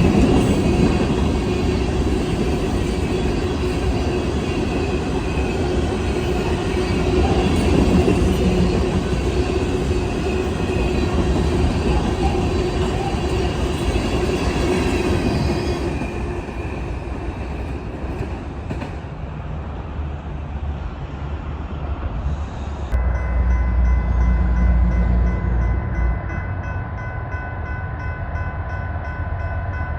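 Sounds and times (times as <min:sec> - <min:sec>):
train wheels rumbling on rails: 0:00.0 - 0:27.3.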